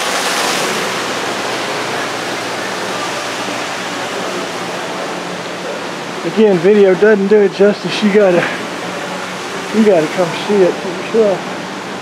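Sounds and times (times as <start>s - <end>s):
indoor waterfall rushing: 0.0s - 12.0s.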